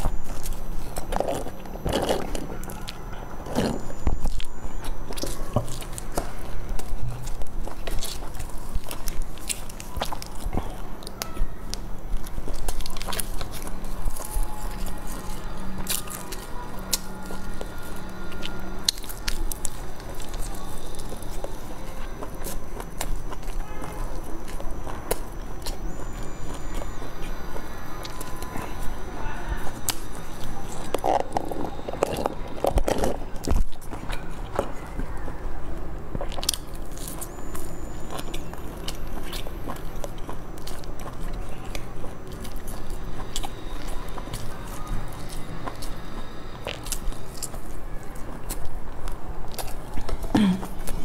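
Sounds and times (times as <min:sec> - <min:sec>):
crisp pastry crust crackling: 0:00.0 - 0:51.0
wet chewing sounds: 0:00.0 - 0:51.0.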